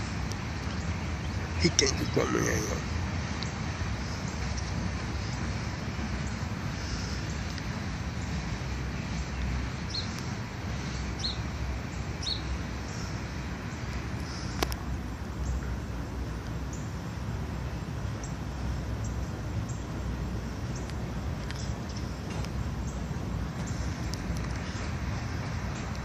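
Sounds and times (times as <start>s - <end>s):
birds chirping: 0.0s - 26.0s
steady low rumble: 0.0s - 26.0s.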